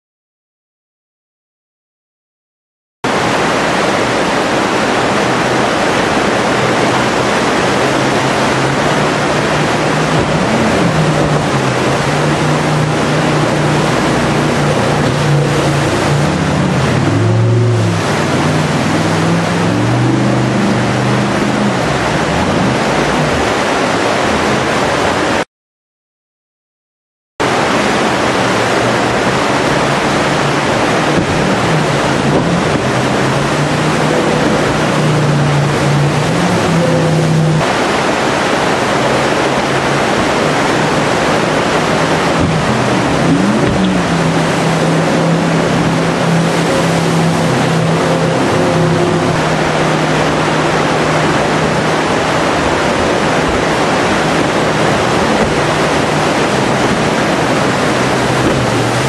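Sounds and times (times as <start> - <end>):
boat engine running: 3.1 - 25.4, 27.4 - 59.0
whitewater rapids rushing: 3.1 - 25.4, 27.4 - 59.0.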